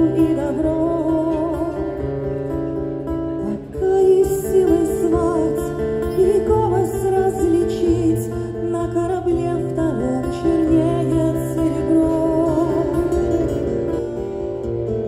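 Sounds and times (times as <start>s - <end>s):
woman singing with vibrato: 0.0s - 2.3s, 3.4s - 14.1s
acoustic guitar: 0.0s - 15.0s.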